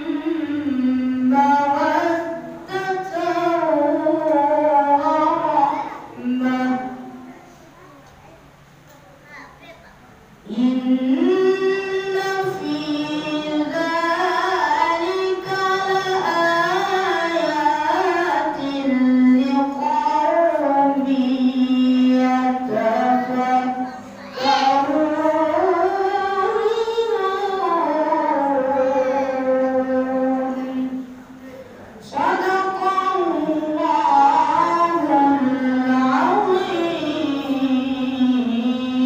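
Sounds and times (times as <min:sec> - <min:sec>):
boy reciting melodically: 0:00.0 - 0:39.0.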